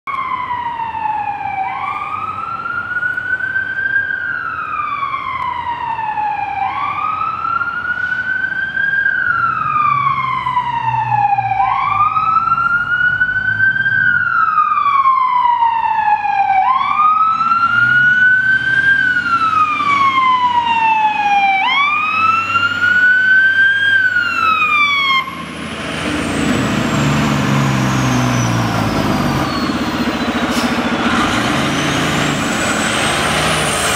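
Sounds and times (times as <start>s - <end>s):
fire truck siren wailing: 0.1s - 33.9s
truck engine noise: 0.1s - 33.9s.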